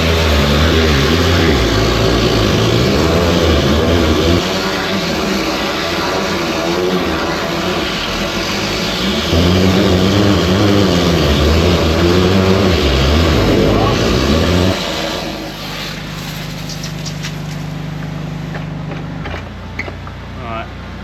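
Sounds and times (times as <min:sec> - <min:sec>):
drain-jetting machine engine: 0:00.0 - 0:18.6.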